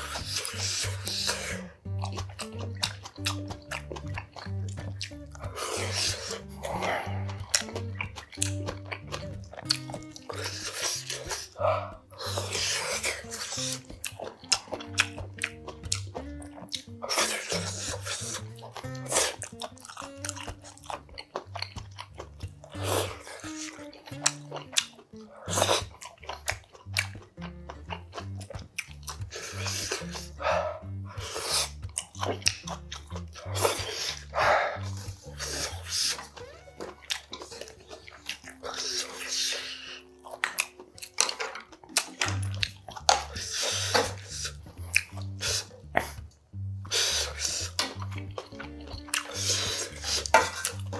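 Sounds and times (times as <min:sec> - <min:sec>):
noodles being slurped: 0:00.0 - 0:46.3, 0:46.9 - 0:50.9
background music with bass line: 0:00.0 - 0:50.9
soft chewing: 0:00.0 - 0:50.9.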